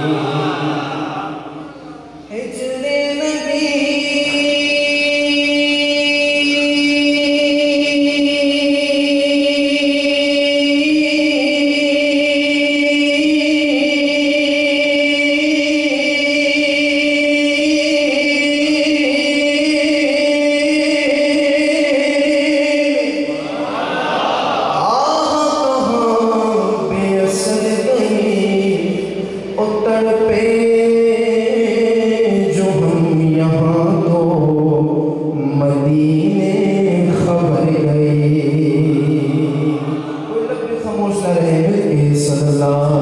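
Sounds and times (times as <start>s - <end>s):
chanted vocal drone: 0.0s - 43.0s.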